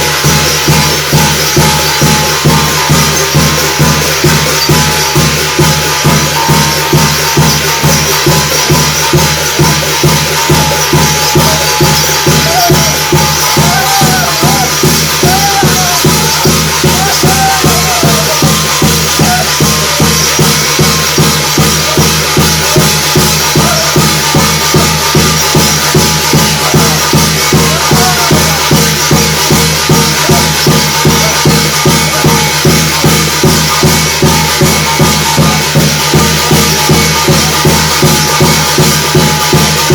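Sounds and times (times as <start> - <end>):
drum beating steadily: 0.0 - 39.9
jangling metal percussion: 0.0 - 39.9.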